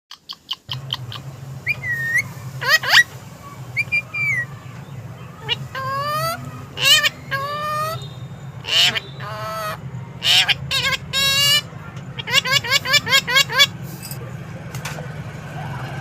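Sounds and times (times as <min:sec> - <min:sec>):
parrot whistling and calling: 0:00.2 - 0:13.8
steady low hum: 0:00.7 - 0:16.0.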